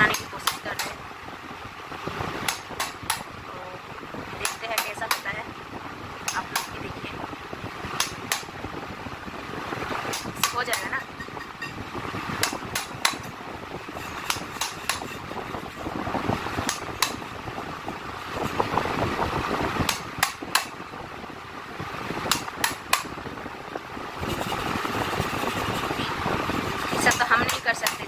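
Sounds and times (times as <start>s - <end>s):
steady background noise: 0.0s - 28.0s.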